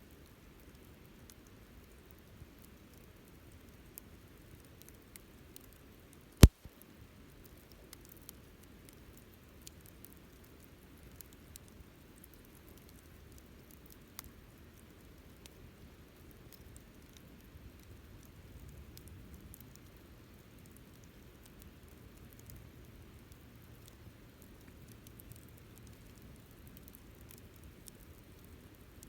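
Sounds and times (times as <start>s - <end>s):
soft low background noise: 0.0s - 29.0s
campfire crackling: 0.2s - 29.0s.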